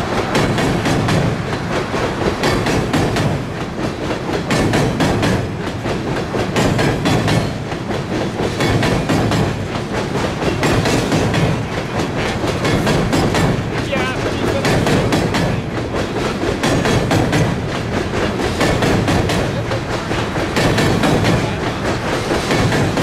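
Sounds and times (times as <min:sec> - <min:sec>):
freight cars rumbling on steel bridge: 0:00.0 - 0:23.0
wheel clacks over rail joints: 0:00.0 - 0:23.0.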